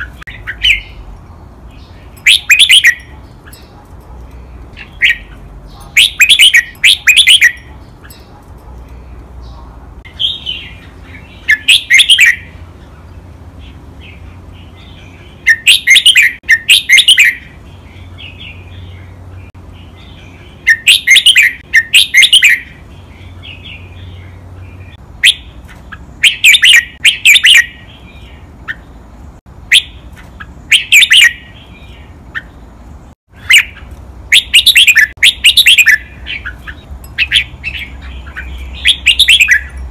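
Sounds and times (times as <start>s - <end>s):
bird singing whistled notes: 0.0s - 1.1s, 1.7s - 3.7s, 4.4s - 8.3s, 10.1s - 12.6s, 14.0s - 29.0s, 29.7s - 32.6s, 33.4s - 39.9s.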